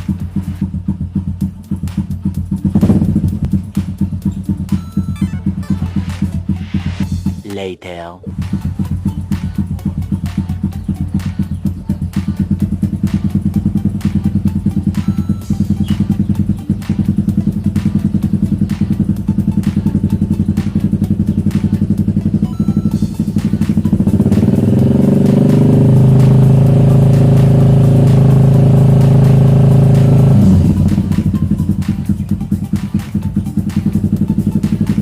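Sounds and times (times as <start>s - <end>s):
motorcycle engine idling and revving: 0.0s - 7.4s, 8.3s - 35.0s.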